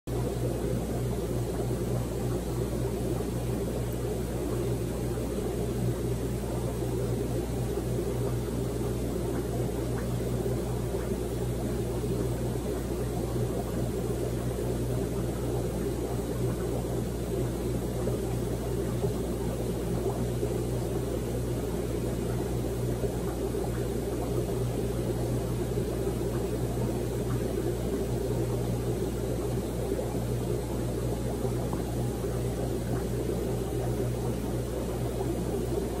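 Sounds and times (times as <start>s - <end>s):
aquarium equipment humming: 0.1s - 36.0s.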